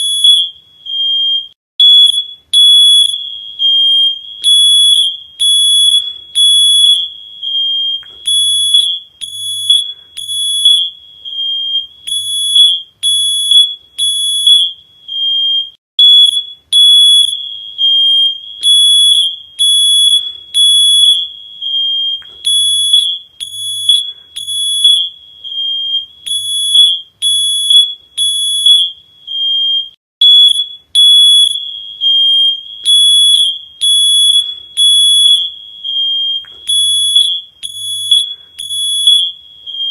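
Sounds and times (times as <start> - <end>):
high-pitched electronic alarm beeping: 0.0 - 39.9.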